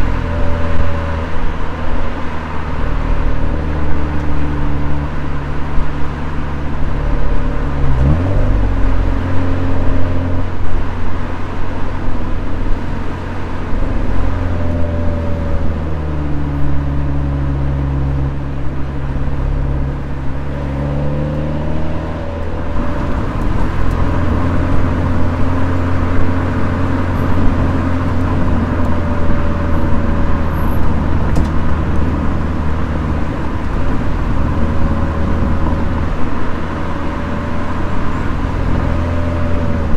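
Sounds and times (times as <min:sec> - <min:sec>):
car engine revving: 0:00.0 - 0:39.9
road noise: 0:00.0 - 0:39.9.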